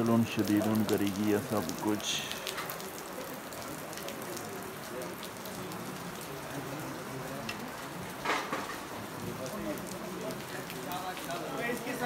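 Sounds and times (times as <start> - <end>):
murmur of many people talking: 0.0 - 12.0
steady rain: 0.0 - 12.0.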